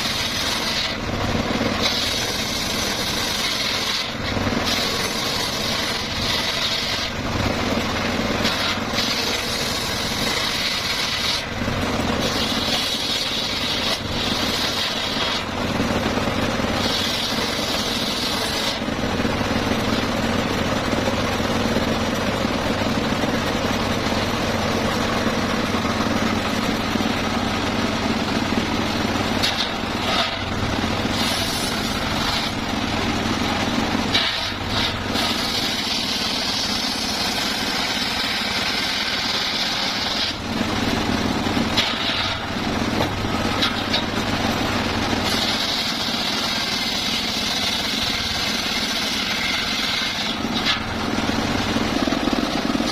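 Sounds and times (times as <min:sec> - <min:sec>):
saw blade cutting wood: 0:00.0 - 0:20.2, 0:21.1 - 0:52.9
circular saw running: 0:00.0 - 0:52.9.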